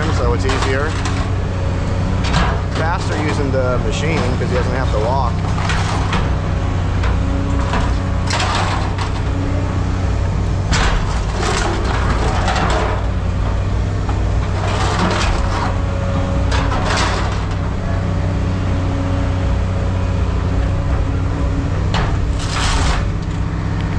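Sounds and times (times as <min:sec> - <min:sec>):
scrap metal crashing: 0:00.0 - 0:18.2, 0:20.7 - 0:23.8
heavy machine engine running: 0:00.0 - 0:23.9.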